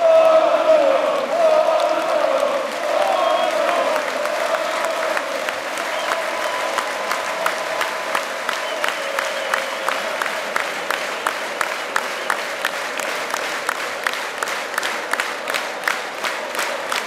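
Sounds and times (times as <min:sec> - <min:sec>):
crowd clapping in unison: 0:00.0 - 0:17.0
crowd roar: 0:00.0 - 0:17.0.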